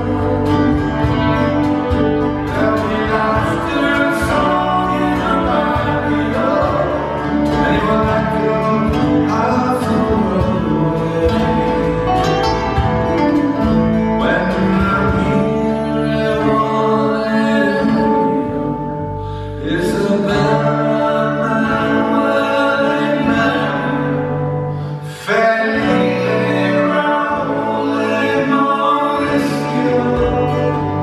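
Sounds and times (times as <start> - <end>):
acoustic guitars playing: 0.0 - 31.0
person singing: 0.0 - 31.0.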